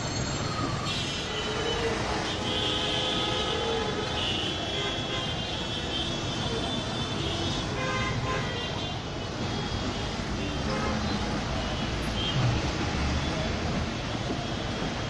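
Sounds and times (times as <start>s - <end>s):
road traffic noise: 0.0s - 15.0s
vehicle horns: 0.9s - 13.4s.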